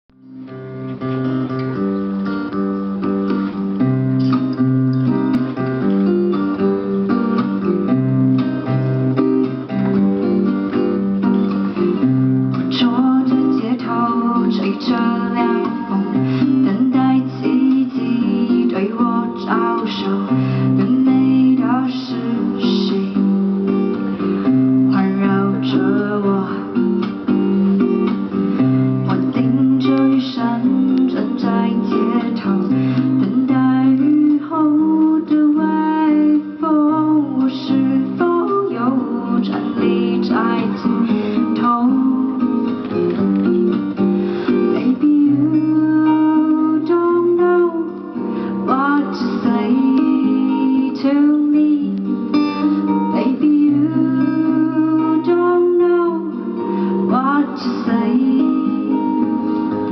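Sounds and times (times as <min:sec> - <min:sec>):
acoustic guitar chords: 0:00.1 - 0:59.9.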